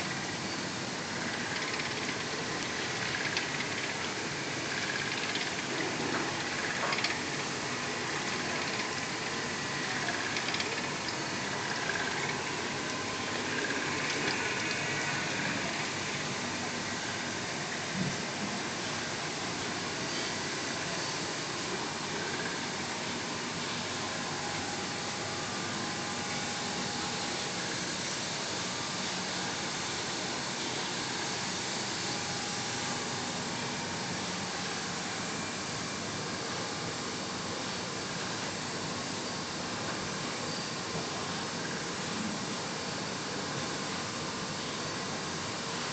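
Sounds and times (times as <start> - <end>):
machine hissing with faint hum: 0.0 - 45.9.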